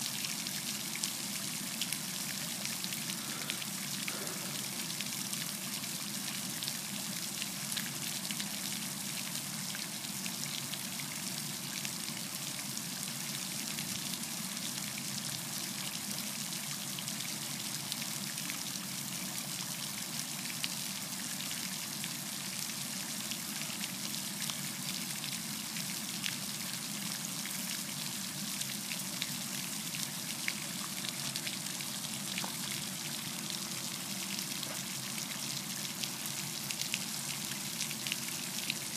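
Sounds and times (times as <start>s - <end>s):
fountain water splashing: 0.0s - 38.9s.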